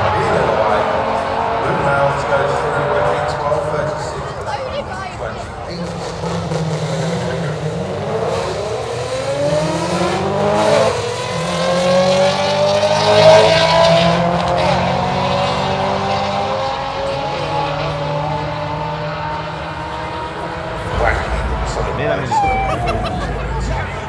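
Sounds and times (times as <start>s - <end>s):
drag car accelerating: 0.0s - 24.0s.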